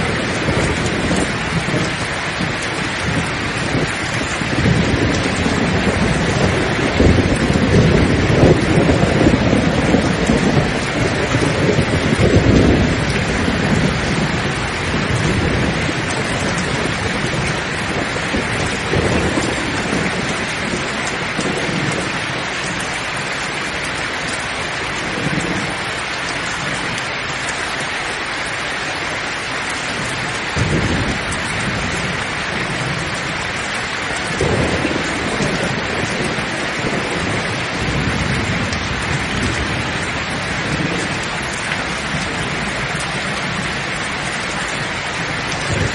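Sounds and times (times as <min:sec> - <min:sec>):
rolling thunder: 0:00.0 - 0:26.0, 0:29.9 - 0:45.9
heavy rain: 0:00.0 - 0:45.9.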